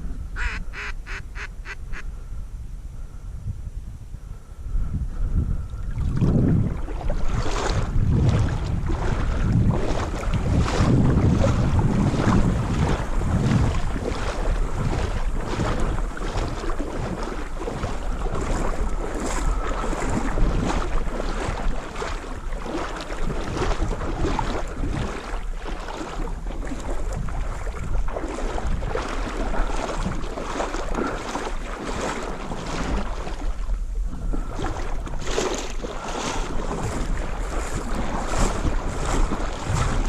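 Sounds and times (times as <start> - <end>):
wind buffeting microphone: 0.0 - 40.0
choppy water lapping: 4.3 - 40.0
small water splashes: 5.7 - 40.0.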